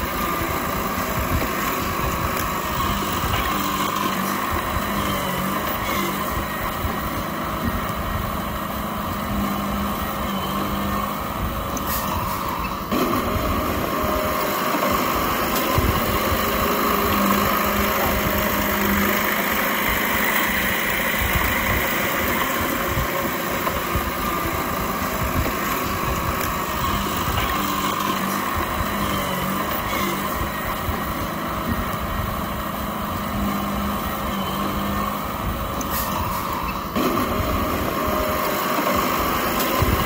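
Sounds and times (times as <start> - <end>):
bulldozer diesel engine running: 0.0 - 40.0.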